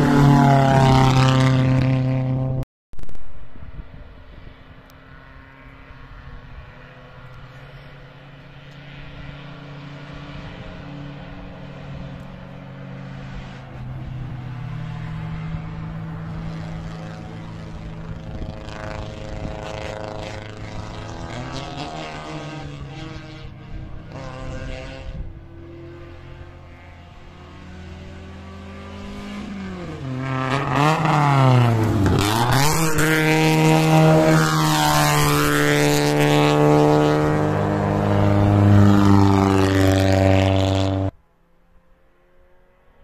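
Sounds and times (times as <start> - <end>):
race car engines revving: 0.0 - 2.6, 4.0 - 43.0.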